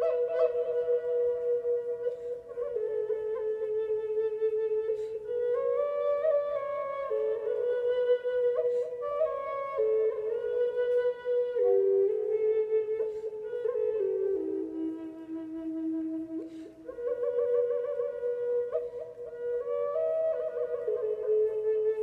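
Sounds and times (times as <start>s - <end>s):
wooden flute melody: 0.0s - 22.0s.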